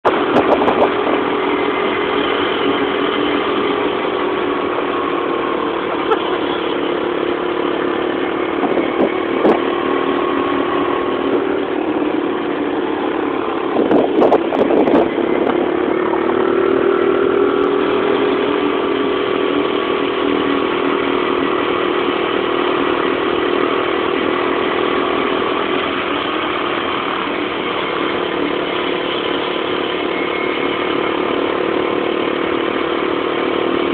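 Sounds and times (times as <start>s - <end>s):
rattling or buffeting: 0.0s - 33.9s
small engine running: 0.1s - 33.9s.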